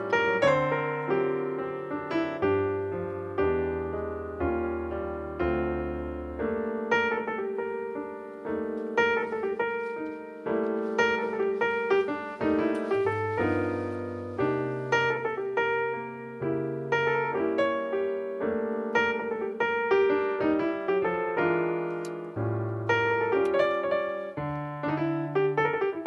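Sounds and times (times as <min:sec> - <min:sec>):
solo piano melody: 0:00.0 - 0:26.0.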